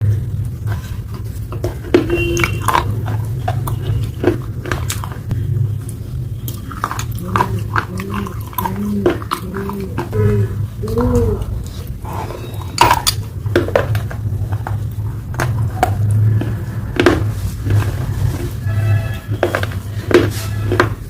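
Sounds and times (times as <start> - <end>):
chewing: 0.0 - 18.6.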